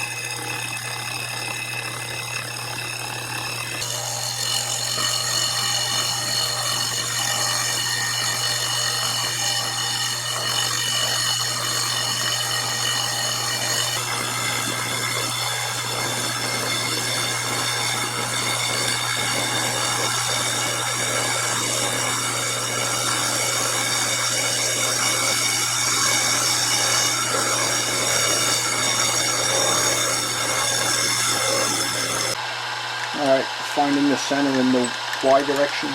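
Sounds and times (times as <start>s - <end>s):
milling machine motor hum: 0.0s - 35.9s
saw gritty cutting noise: 0.0s - 35.9s.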